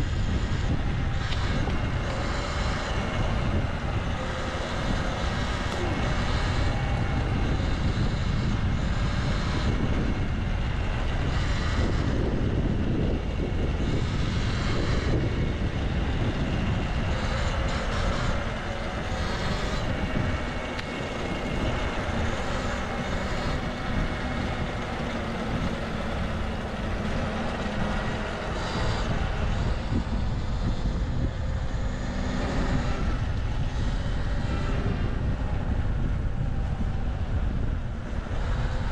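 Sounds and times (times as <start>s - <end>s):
heavy low rumble: 0.0s - 38.9s
passing vehicle engines: 0.0s - 38.9s.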